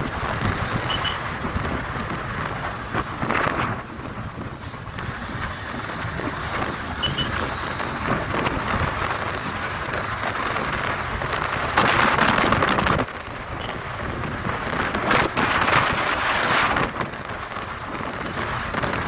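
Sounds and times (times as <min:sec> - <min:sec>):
motorcycle road noise: 0:00.0 - 0:19.0
wind rushing over microphone: 0:00.0 - 0:19.0.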